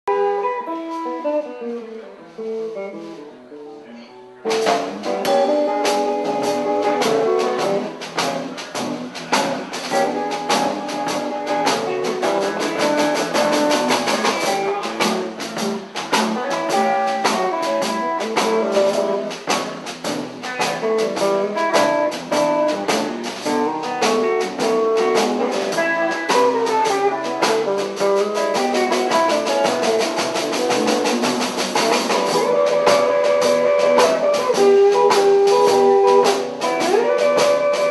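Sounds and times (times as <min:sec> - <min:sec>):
blues band playing: 0:00.0 - 0:37.9
guitar lines: 0:00.0 - 0:37.9
drum kit beat: 0:04.5 - 0:37.9.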